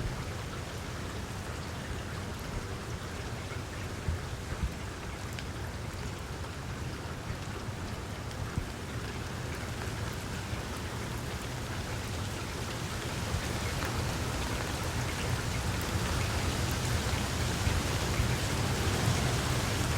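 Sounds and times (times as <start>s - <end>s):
rain falling on leaves: 0.0s - 19.9s.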